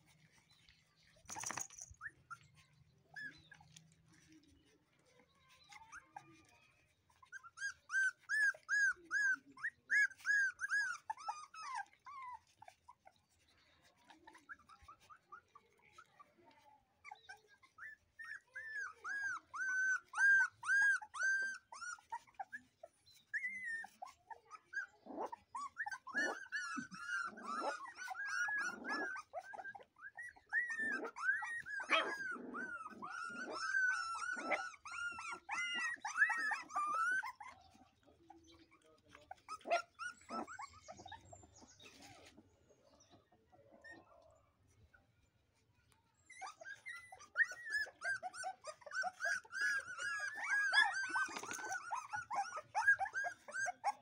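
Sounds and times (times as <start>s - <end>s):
puppies whining and yelping: 0.0s - 54.0s.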